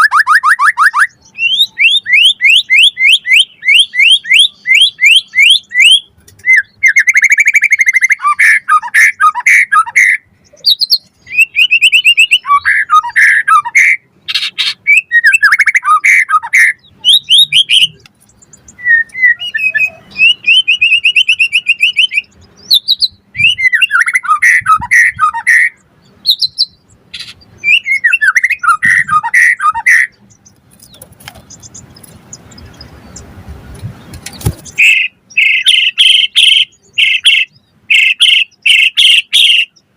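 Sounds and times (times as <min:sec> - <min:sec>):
bird singing trills and whistles: 0:00.0 - 0:33.3, 0:34.0 - 0:39.9.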